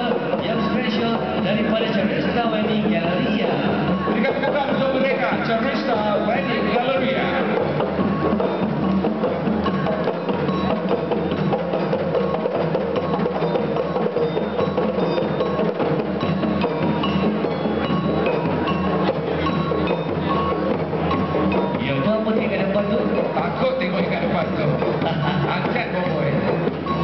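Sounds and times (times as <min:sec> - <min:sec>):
bell-like mallet notes: 0:00.0 - 0:27.0
music over loudspeakers: 0:00.0 - 0:27.0.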